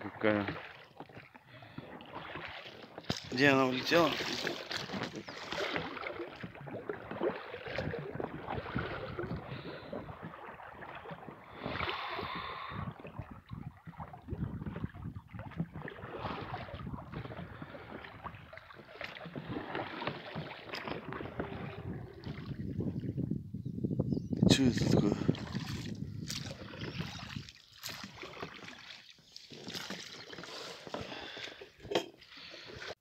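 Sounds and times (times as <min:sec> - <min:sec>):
oars dipping and splashing: 0:00.0 - 0:23.4, 0:24.5 - 0:33.0
water lapping against hull: 0:00.0 - 0:33.0.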